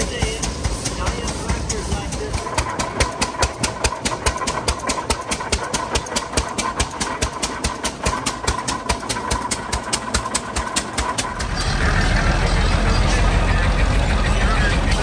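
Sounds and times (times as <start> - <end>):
engine popping exhaust: 0.0 - 15.0
low engine rumble: 0.0 - 15.0.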